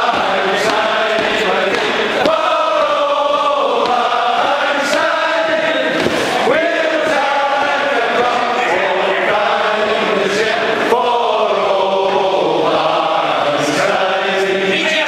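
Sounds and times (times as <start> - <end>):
men singing in unison: 0.0 - 15.0.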